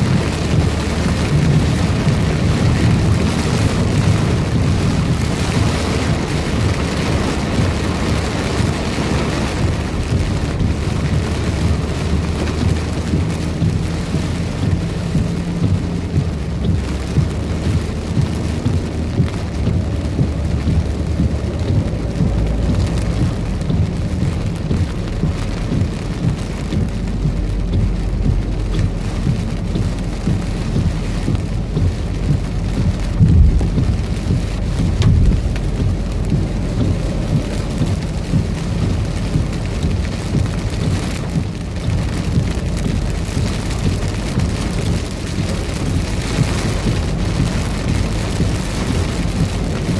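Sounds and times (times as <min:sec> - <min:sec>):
heavy rain pouring: 0:00.0 - 0:49.9
low thunder rumble: 0:00.0 - 0:49.9.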